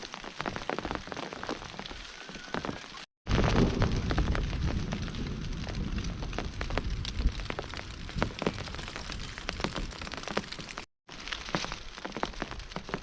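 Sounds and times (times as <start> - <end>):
rain hissing: 0.0 - 13.0
raindrops tapping a surface: 0.0 - 13.0.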